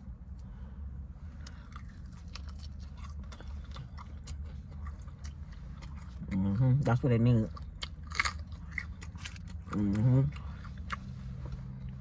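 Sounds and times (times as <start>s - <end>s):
person chewing crunchy food: 1.4s - 12.0s.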